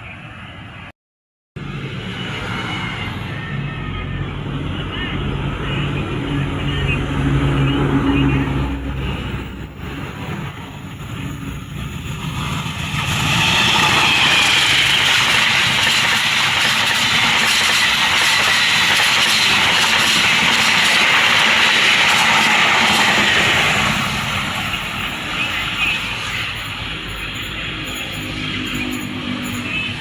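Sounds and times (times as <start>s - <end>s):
train passing on track: 0.0s - 0.9s, 1.6s - 30.0s.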